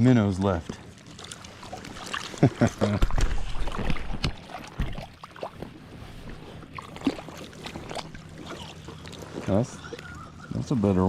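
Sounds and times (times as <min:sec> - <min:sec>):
water splashing and lapping: 0:00.1 - 0:10.8.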